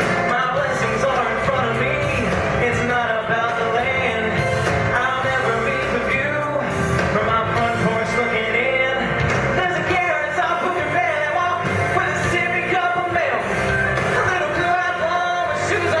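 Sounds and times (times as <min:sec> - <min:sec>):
instrumental backing music: 0:00.0 - 0:16.0
man singing country song: 0:00.2 - 0:13.5, 0:14.2 - 0:16.0.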